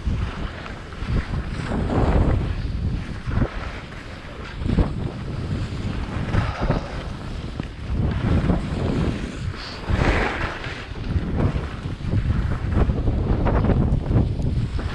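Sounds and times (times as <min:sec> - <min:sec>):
skis sliding on snow: 0:00.0 - 0:14.9
wind buffeting microphone: 0:00.0 - 0:14.9.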